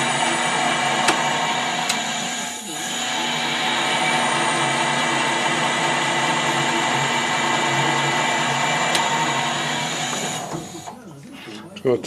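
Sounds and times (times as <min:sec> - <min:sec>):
metal lathe running: 0:00.0 - 0:11.0.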